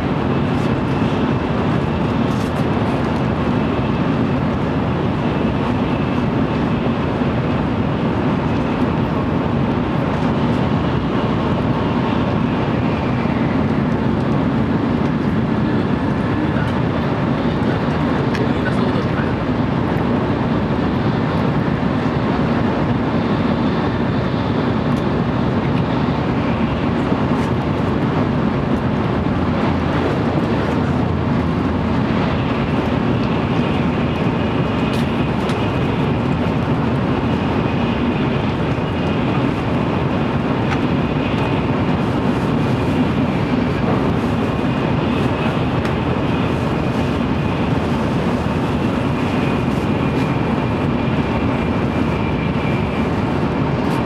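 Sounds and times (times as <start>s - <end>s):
train wheels and rushing air: 0.0s - 54.0s.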